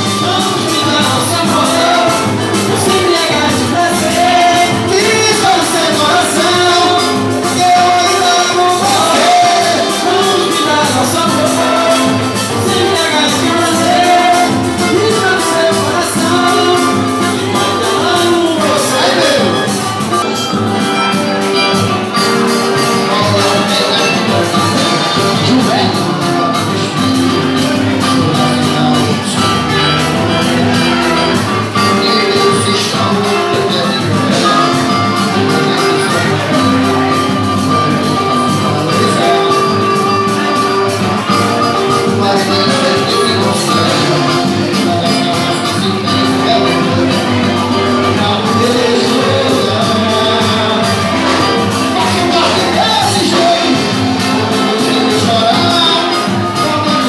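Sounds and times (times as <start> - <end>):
busy percussion beat: 0.0 - 57.0
live band music: 0.0 - 57.0.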